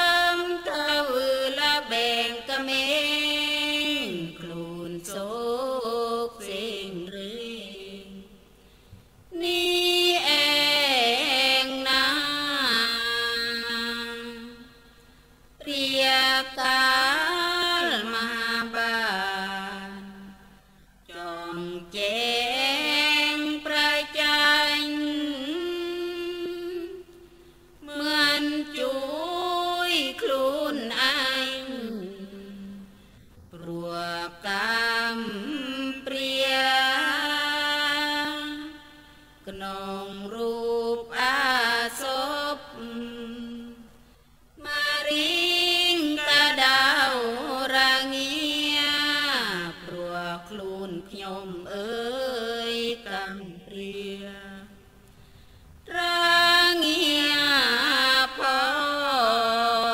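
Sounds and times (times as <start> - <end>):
solo voice chanting: 0.0 - 55.0.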